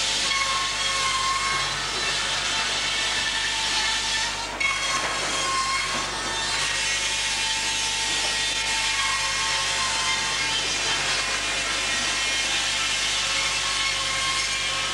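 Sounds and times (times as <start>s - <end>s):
saw whining through timber: 0.0s - 14.9s.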